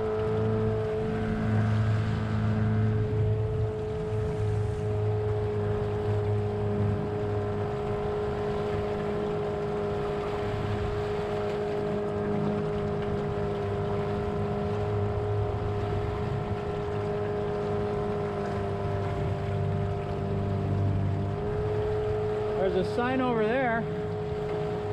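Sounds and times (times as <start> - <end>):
boat motor whining: 0.0 - 24.9
water noise: 0.0 - 24.9
wind: 0.0 - 24.9.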